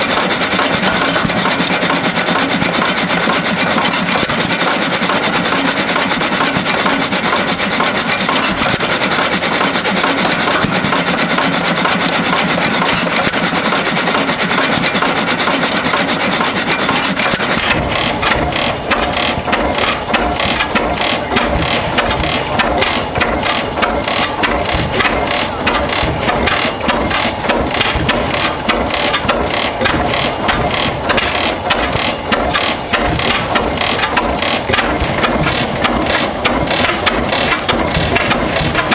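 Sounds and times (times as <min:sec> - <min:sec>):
engine with rapid firing beat: 0:00.0 - 0:38.9
old stationary engines running: 0:00.0 - 0:38.9.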